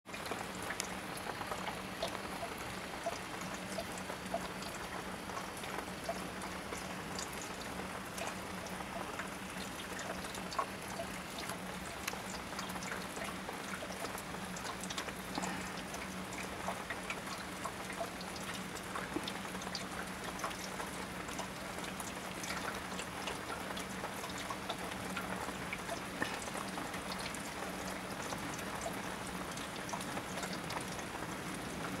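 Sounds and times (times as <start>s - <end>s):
low steady hum: 0.1s - 32.0s
rain falling: 0.1s - 32.0s.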